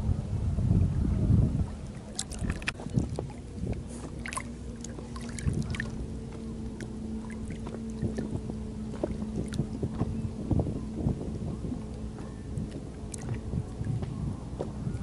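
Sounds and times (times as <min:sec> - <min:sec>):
water lapping against boat hull: 0:00.7 - 0:15.0.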